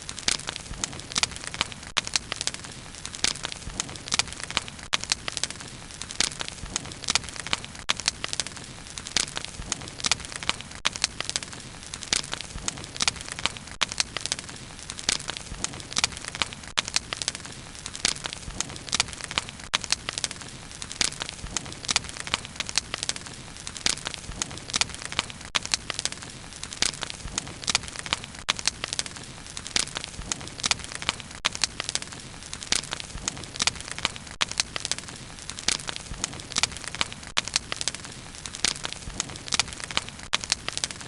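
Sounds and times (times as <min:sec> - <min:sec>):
bonfire crackling and popping: 0:00.0 - 0:41.0.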